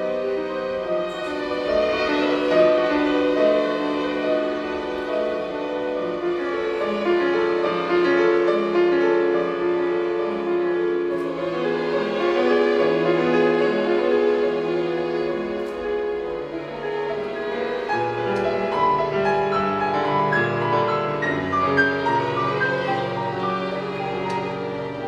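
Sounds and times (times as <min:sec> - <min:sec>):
piano: 0:00.0 - 0:25.0
string orchestra: 0:00.0 - 0:25.0.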